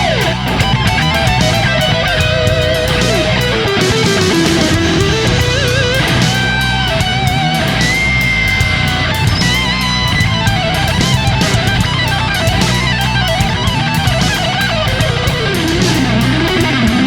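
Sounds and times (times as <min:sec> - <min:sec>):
electric guitar lead melody: 0:00.0 - 0:17.0
rock music: 0:00.0 - 0:17.0.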